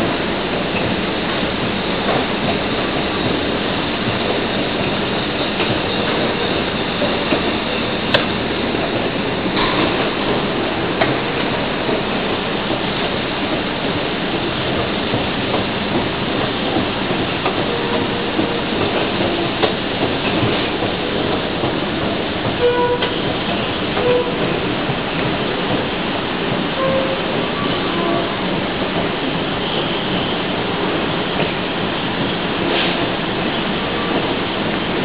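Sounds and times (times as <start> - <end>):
escalator rumble with clicking: 0.0 - 31.6.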